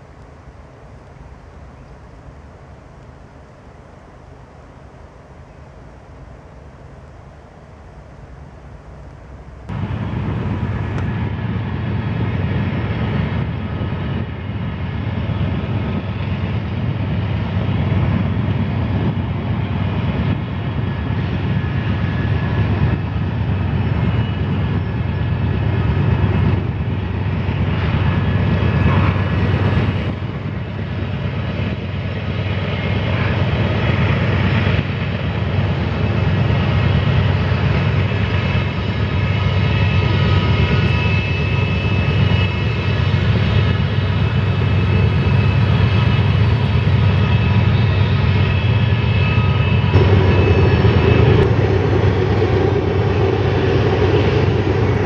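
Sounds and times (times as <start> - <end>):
diesel locomotives droning: 0.0 - 55.0
faint wind noise: 0.0 - 55.0.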